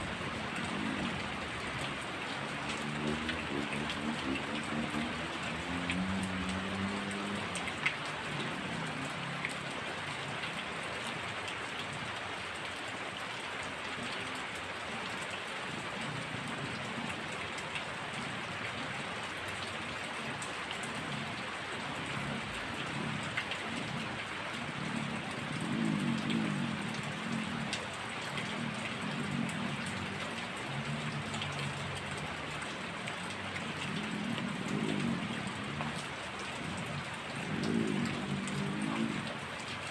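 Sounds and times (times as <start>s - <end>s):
heavy rain falling: 0.0s - 39.9s
sharp drip ticks: 0.0s - 39.9s.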